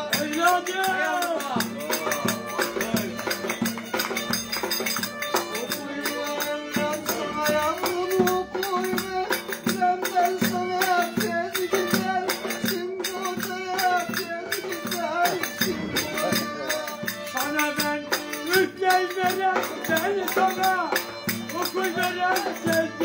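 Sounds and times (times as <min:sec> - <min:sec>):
percussive clicking beat: 0:00.0 - 0:23.0
violin playing folk tune: 0:00.0 - 0:23.0.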